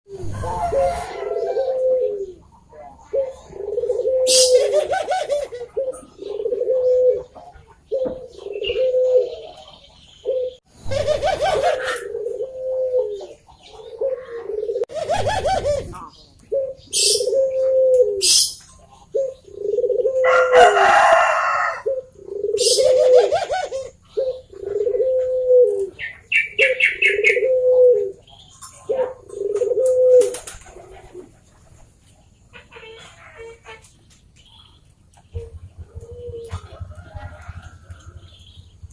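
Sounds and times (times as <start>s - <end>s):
dove cooing: 0.1s - 31.6s, 35.2s - 38.4s.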